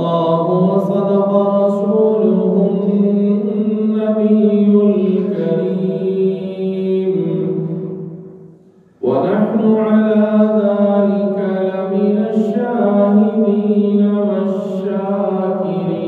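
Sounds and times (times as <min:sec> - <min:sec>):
man chanting: 0:00.0 - 0:08.1, 0:09.0 - 0:16.0.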